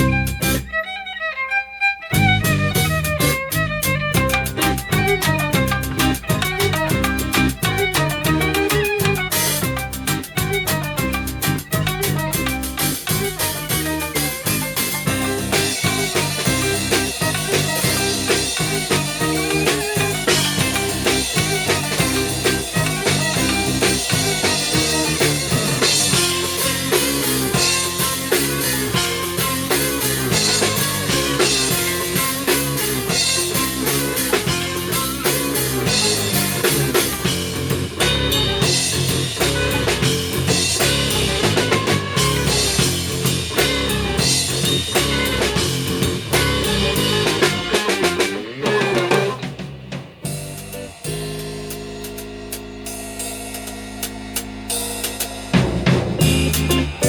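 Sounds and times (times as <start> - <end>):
drum kit beat: 0.0 - 0.8, 1.4 - 57.0
fast plucked shamisen lines: 0.0 - 49.6, 50.3 - 57.0.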